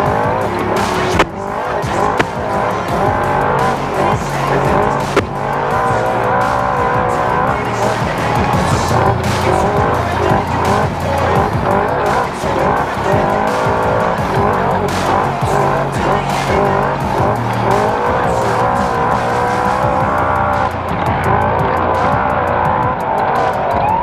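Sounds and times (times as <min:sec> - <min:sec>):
utv engine running hard: 0:00.0 - 0:24.0.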